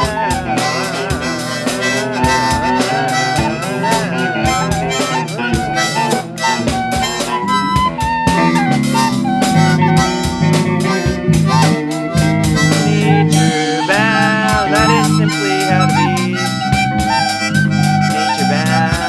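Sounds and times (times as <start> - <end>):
bass: 0.0 - 19.0
guitar: 0.0 - 19.0
harmonica melody: 0.0 - 19.0
steady drum beat: 0.0 - 19.0.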